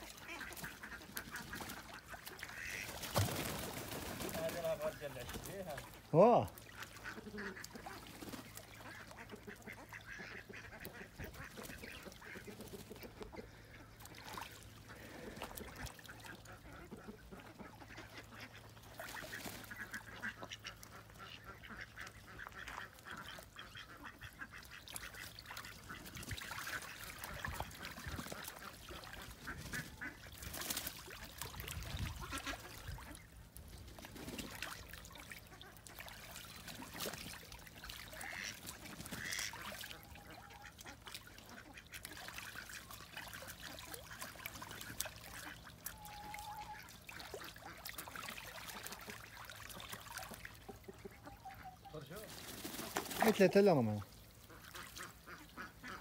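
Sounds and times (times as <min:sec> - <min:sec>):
ducks quacking: 0:00.0 - 0:56.0
light water splashing: 0:00.0 - 0:56.0.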